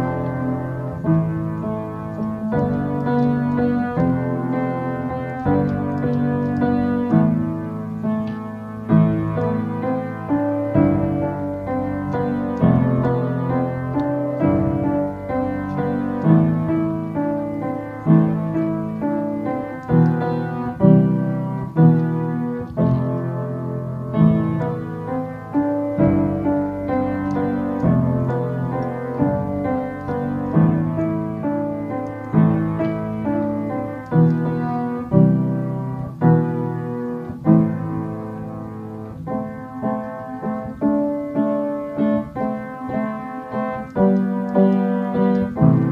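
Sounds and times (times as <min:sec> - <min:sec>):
solo piano chords: 0:00.0 - 0:45.9.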